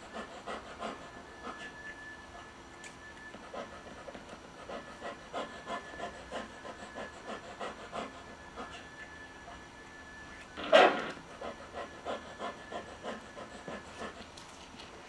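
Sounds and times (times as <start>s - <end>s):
dog panting: 0.0s - 2.5s, 3.3s - 9.6s, 10.6s - 15.0s.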